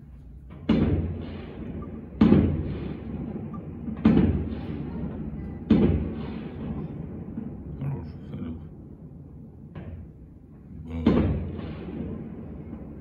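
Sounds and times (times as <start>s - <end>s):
firework shells bursting: 0.0s - 7.8s, 8.9s - 13.0s.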